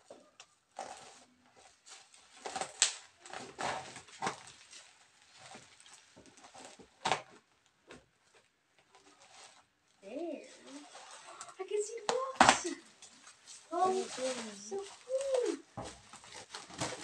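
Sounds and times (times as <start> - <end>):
plastic wrap rustling and crinkling: 0.0 - 17.0.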